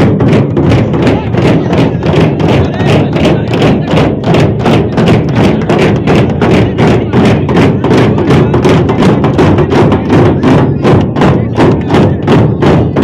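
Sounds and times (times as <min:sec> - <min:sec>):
barrel drums beaten with sticks: 0:00.0 - 0:13.0.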